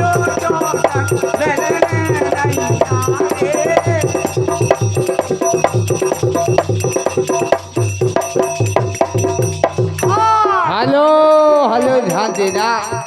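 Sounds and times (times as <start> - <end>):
fast clattering percussion: 0.0 - 13.0
regular drum beat: 0.0 - 13.0.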